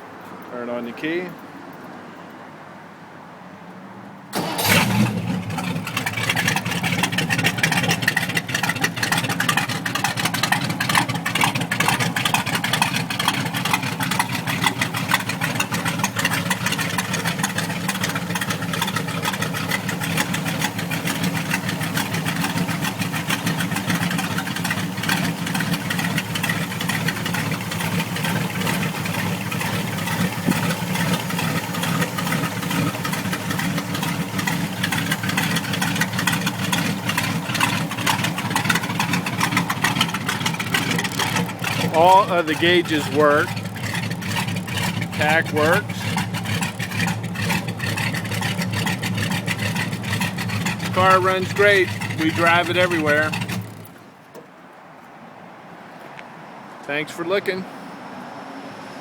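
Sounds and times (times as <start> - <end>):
car engine starting and idling: 4.3 - 54.6.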